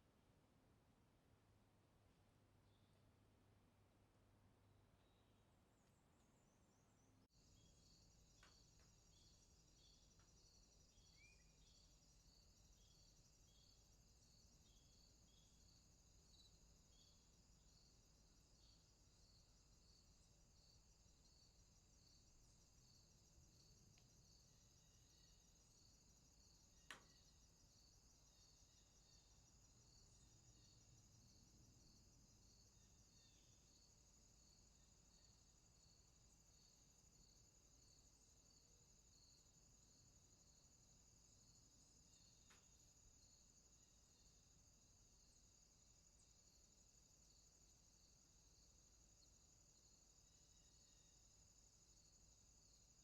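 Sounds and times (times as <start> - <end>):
faint insect chirping: 0.0 - 53.0.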